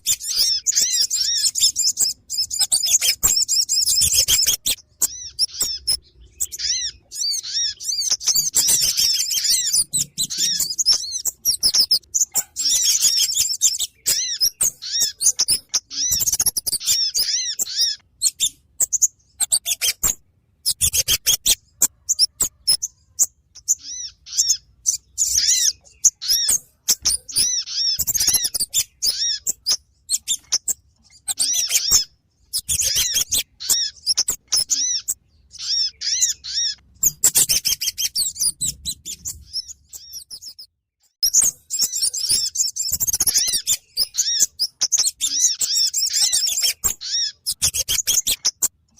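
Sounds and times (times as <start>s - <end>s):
rapid high bird chirping: 0.0s - 48.9s.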